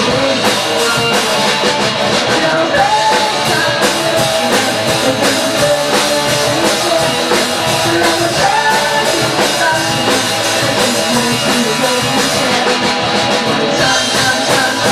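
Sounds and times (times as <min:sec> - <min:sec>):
rock band playing: 0:00.0 - 0:14.9.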